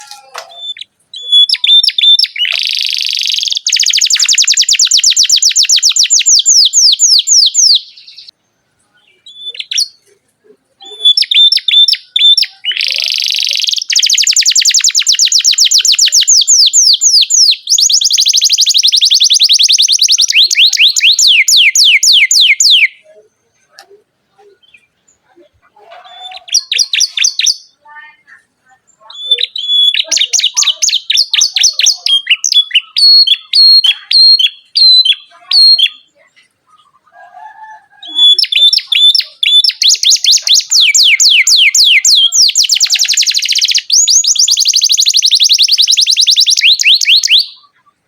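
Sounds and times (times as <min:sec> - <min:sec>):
canary singing with trills: 0:00.0 - 0:48.0.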